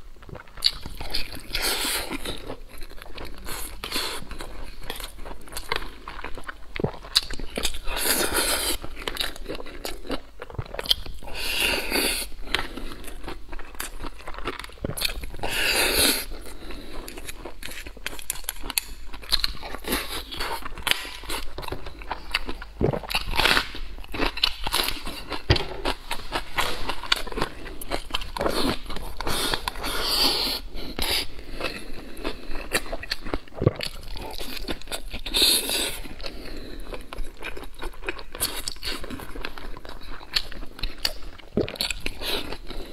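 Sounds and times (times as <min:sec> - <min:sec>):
man chewing food: 0:00.0 - 0:42.9.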